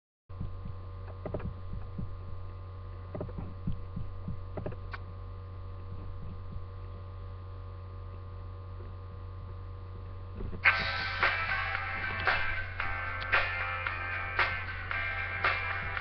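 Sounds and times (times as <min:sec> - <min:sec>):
low electrical hum: 0:00.3 - 0:16.0.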